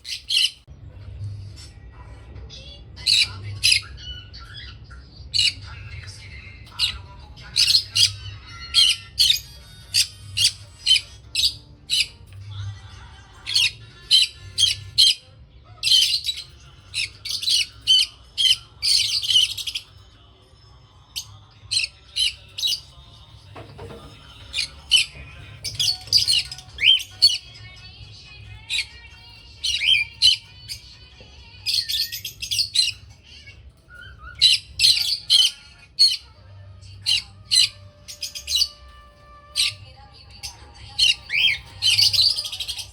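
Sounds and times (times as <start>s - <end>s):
parrots chirping and squawking: 0.0s - 0.7s, 2.5s - 20.2s, 20.9s - 42.9s.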